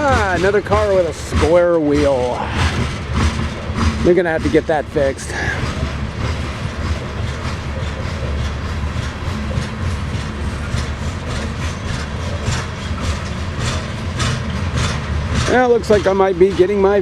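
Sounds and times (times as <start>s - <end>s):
freight train rolling past: 0.0s - 17.0s
train wheels clacking: 0.0s - 17.0s.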